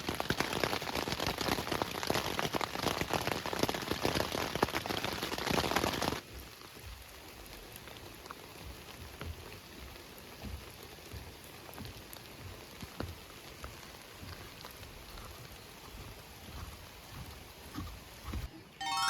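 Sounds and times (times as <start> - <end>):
raindrops ticking on surface: 0.0 - 18.5
steady rain: 0.0 - 19.0.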